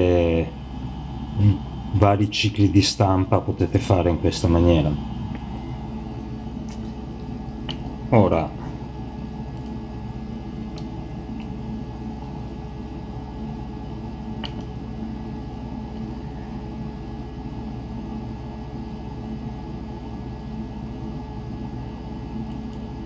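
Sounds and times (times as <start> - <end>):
three-d printer humming: 0.0 - 23.0.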